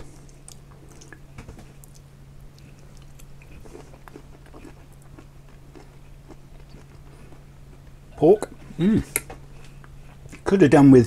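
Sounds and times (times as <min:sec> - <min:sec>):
person chewing food: 0:00.0 - 0:10.5
steady low hum: 0:00.0 - 0:11.0.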